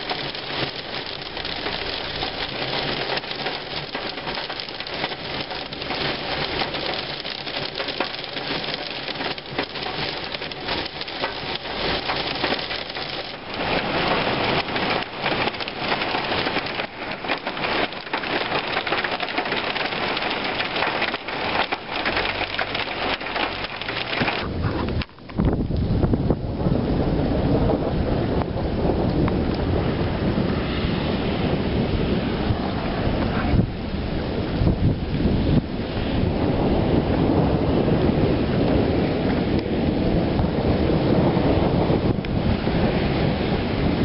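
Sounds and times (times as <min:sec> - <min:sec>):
heavy rain on car roof: 0:00.0 - 0:44.0.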